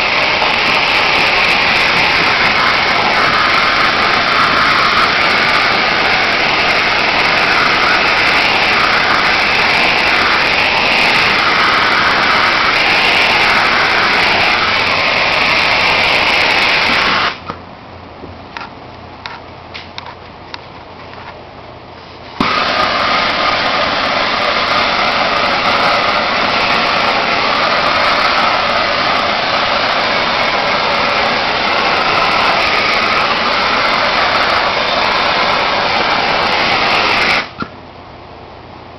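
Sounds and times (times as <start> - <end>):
gas torch hissing: 0.0 - 17.6, 22.1 - 37.8.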